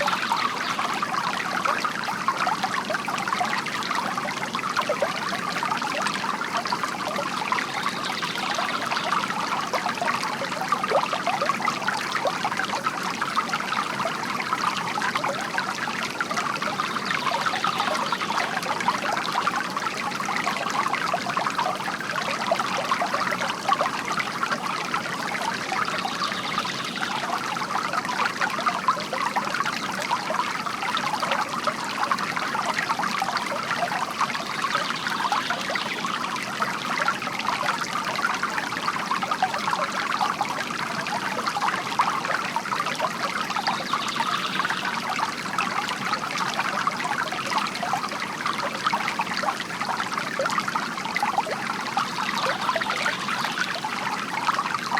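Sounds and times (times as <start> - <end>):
fountain water trickling into basin: 0.0 - 54.9.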